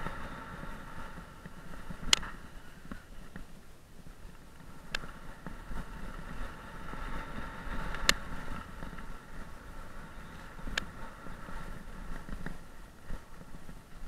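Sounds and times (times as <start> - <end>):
bike rattling over bumps: 0.0 - 14.0
faint steady whirr: 0.0 - 14.0
tyre and wind rumble: 0.0 - 14.0.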